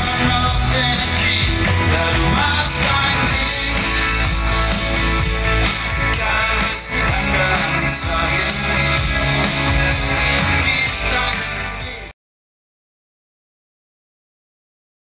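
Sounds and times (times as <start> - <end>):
live rock music: 0.0 - 12.1.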